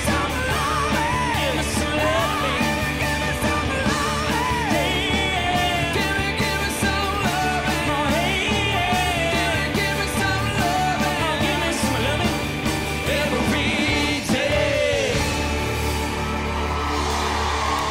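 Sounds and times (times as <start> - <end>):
man singing rock song: 0.0 - 15.8.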